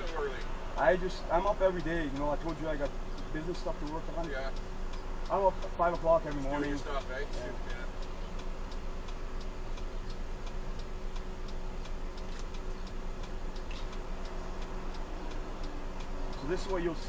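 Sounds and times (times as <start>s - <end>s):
car indicator ticking: 0.0s - 17.0s.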